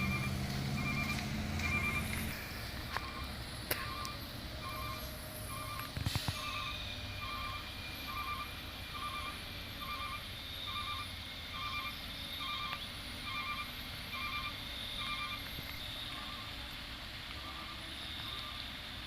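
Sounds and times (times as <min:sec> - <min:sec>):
engine idling: 0:00.0 - 0:19.0
truck reversing alarm beeping: 0:00.0 - 0:19.0.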